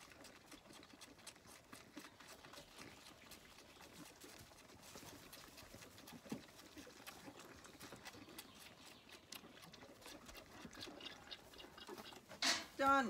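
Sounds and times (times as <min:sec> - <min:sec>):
lamb sucking from bottle: 0:00.0 - 0:12.7.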